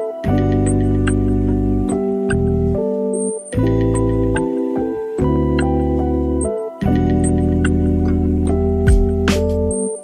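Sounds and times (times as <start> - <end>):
soft keyboard music: 0.0 - 10.0.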